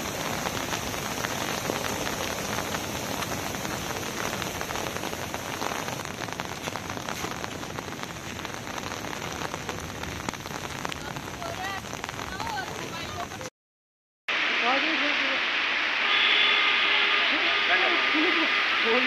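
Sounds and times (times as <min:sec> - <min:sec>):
heavy rain on muddy road: 0:00.0 - 0:13.5, 0:14.3 - 0:19.0.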